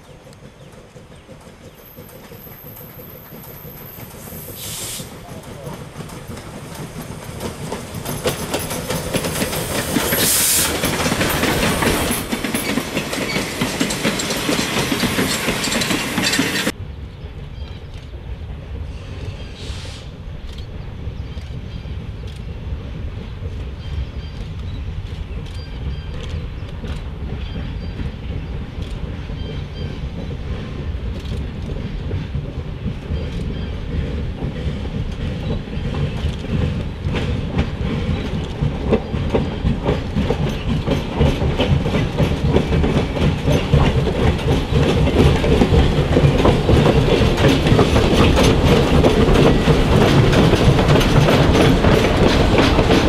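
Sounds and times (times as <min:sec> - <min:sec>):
wheels clicking over rail joints: 0:00.0 - 0:16.8, 0:20.3 - 0:53.0
steam locomotive approaching: 0:00.0 - 0:53.0.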